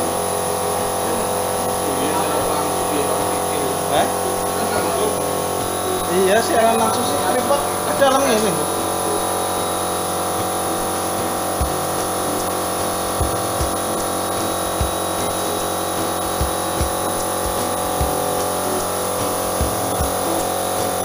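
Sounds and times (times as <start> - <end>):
air compressor motor hum: 0.0 - 21.0.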